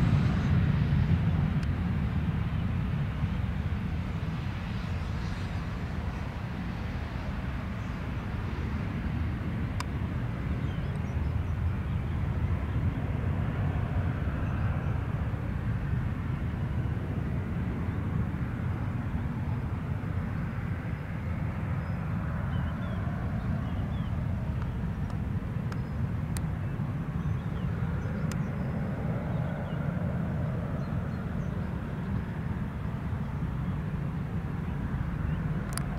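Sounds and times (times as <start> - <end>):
jet engines rumbling: 0.0 - 35.9.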